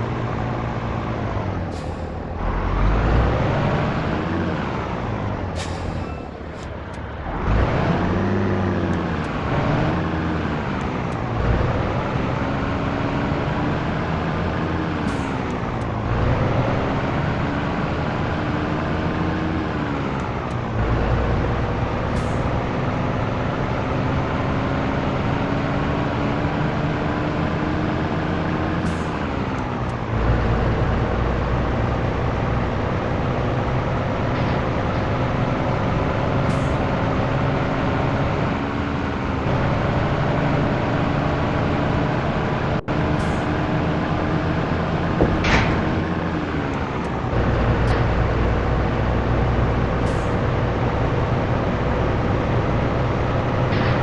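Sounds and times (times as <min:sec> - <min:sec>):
truck diesel engine accelerating: 0:00.0 - 0:54.0.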